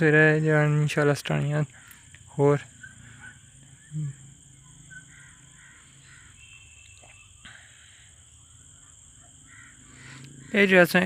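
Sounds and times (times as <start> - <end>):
high-pitched insect drone: 0.0 - 11.0
distant crow-like caws: 1.4 - 11.0.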